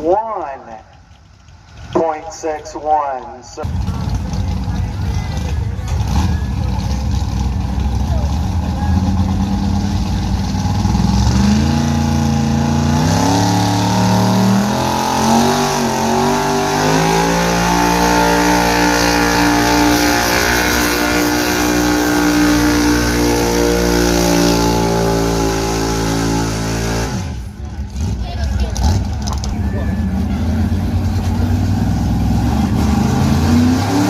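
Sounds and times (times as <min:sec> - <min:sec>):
pickup truck engine at full throttle: 0:03.6 - 0:34.0.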